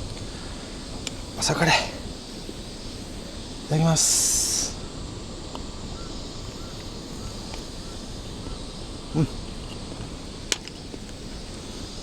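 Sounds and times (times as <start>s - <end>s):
faint high insect hum: 0.0s - 12.0s.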